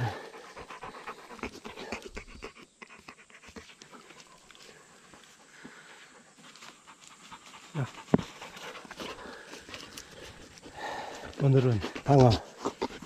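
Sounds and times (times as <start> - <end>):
dog panting rapidly: 0.0 - 13.0.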